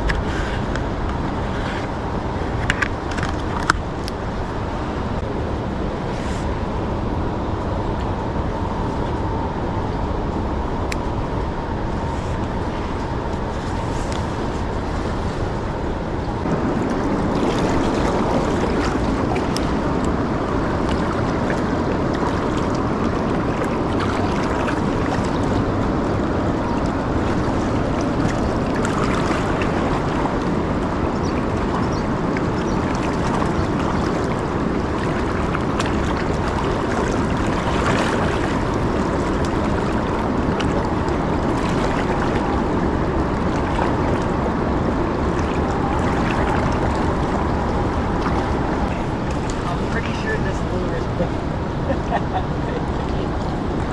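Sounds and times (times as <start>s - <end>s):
wind noise on microphone: 0.0s - 53.9s.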